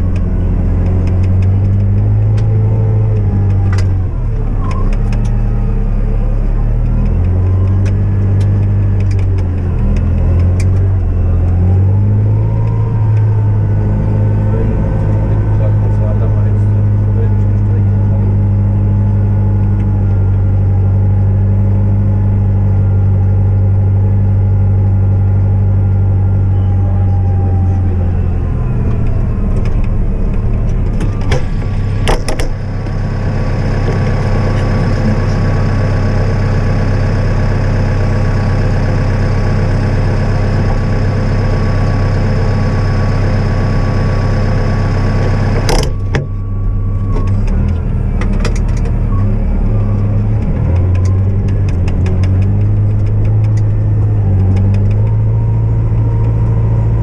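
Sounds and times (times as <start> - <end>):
diesel engine running: 0.0 - 57.0
steady whine: 0.0 - 57.0.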